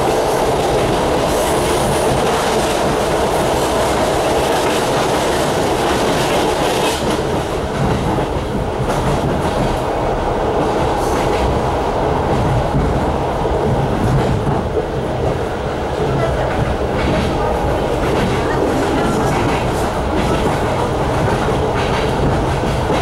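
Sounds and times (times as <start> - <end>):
clack over rail joints: 0.0 - 9.9, 10.6 - 23.0
passing freight train rushing hiss: 0.0 - 23.0
train wheels rumbling on rails: 0.0 - 23.0.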